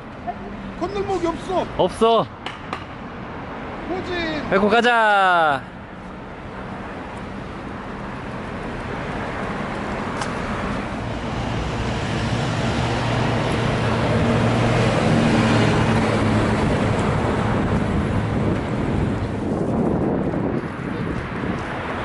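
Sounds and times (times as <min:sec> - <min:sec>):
road traffic engine hum: 0:00.0 - 0:22.0.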